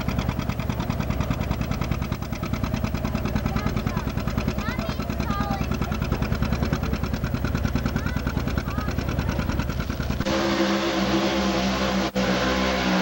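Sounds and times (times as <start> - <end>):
tractor engine pulsing: 0.0 - 13.0
truck engine at high revs: 0.0 - 13.0.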